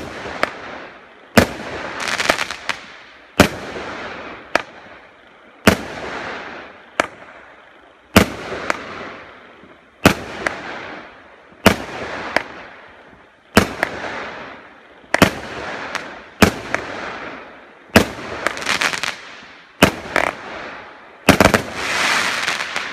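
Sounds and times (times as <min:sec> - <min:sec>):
firework bangs with hiss: 0:00.0 - 0:22.9
firework crackling: 0:00.0 - 0:22.9.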